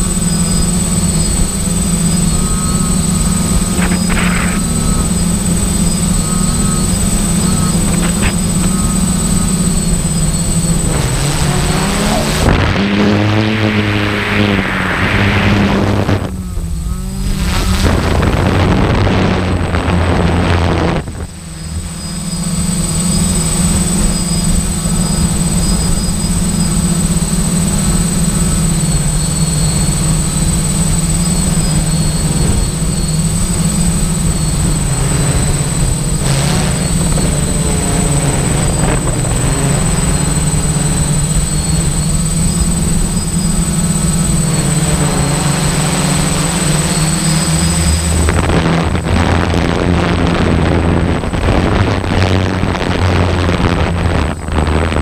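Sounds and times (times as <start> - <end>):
rushing noise: 0.0 - 24.8, 32.0 - 55.0
vehicle engine running: 0.0 - 55.0.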